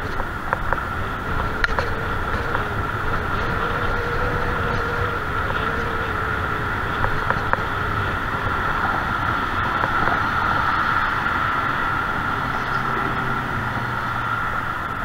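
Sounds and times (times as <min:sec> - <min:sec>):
bicycle rolling rumble: 0:00.0 - 0:15.0
steady high hum: 0:00.0 - 0:15.0
wind rush: 0:00.0 - 0:15.0.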